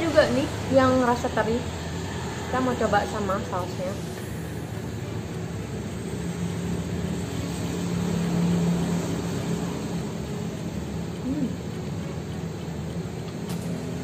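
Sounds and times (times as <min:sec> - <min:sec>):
vehicle engine passing: 0:00.0 - 0:12.6
road traffic noise: 0:00.0 - 0:14.0.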